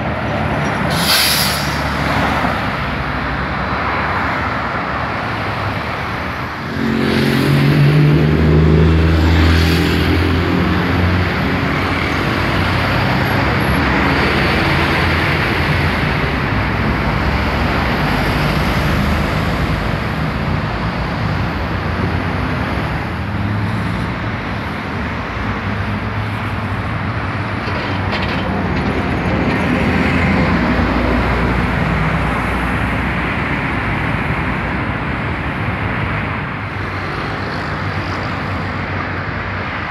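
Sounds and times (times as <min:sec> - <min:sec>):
heavy road traffic roar: 0:00.0 - 0:39.9
heavy vehicle engine drone: 0:00.0 - 0:39.9.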